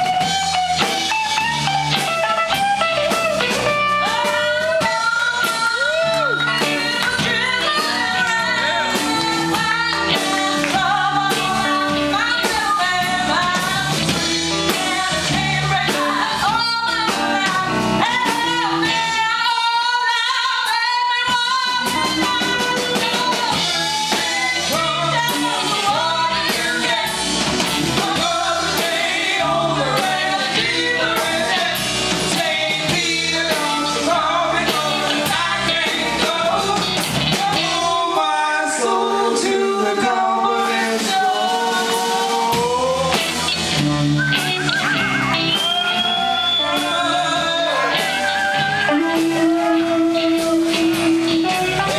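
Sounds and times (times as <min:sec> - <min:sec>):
live rock blues band: 0:00.0 - 0:51.9
woman singing: 0:03.9 - 0:43.2, 0:45.5 - 0:51.9.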